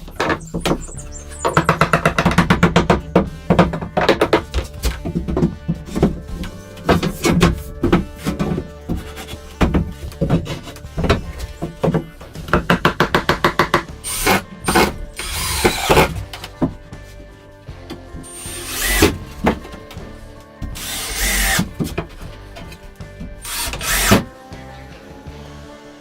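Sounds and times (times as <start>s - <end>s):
tool scraping wood: 0.0s - 24.2s
music: 0.0s - 26.0s.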